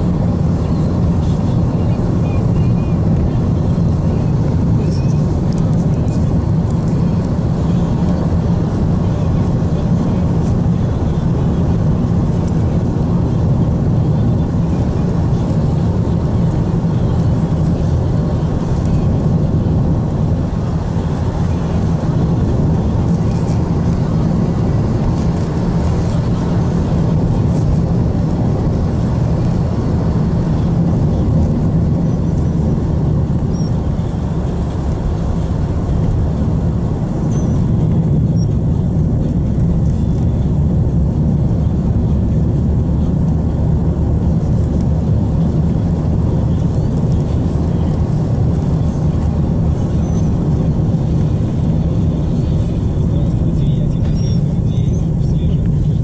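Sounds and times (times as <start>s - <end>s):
car interior engine and road noise: 0.0s - 56.0s.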